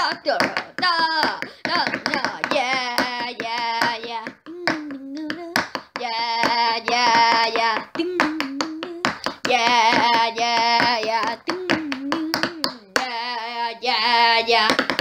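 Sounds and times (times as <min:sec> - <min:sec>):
person singing wordless notes: 0:02.2 - 0:14.6.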